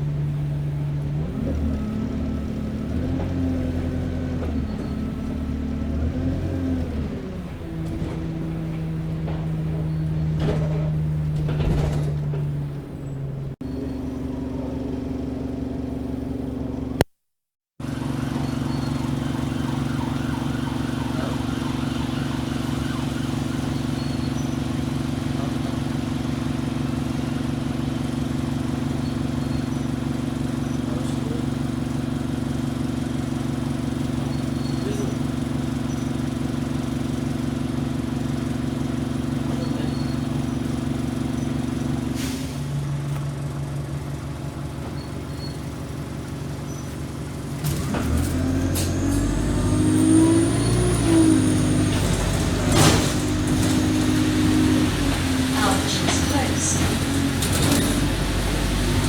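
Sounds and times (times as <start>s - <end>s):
bus diesel engine running: 0.0s - 17.1s, 17.8s - 59.0s.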